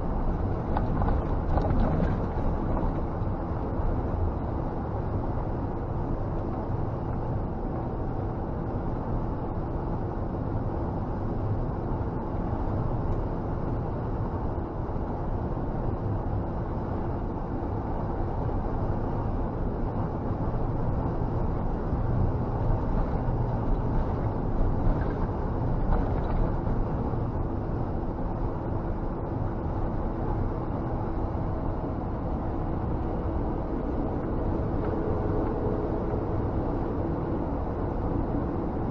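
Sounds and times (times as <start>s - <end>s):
truck engine and road drone: 0.0s - 38.9s.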